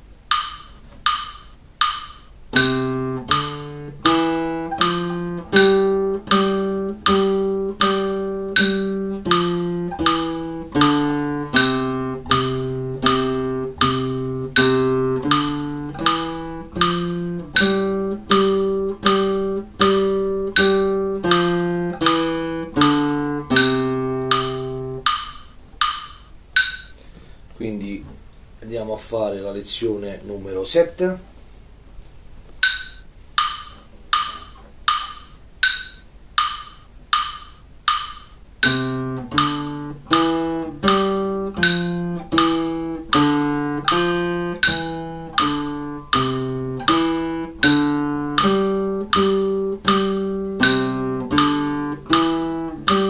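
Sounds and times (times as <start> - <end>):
nylon-string guitar notes: 0.0 - 26.8, 32.6 - 53.0
metronome ticking: 0.0 - 27.0, 32.6 - 53.0.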